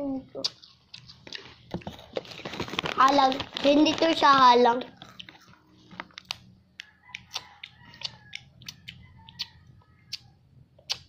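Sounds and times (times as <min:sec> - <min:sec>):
crispy snack crunching: 0:00.4 - 0:09.5.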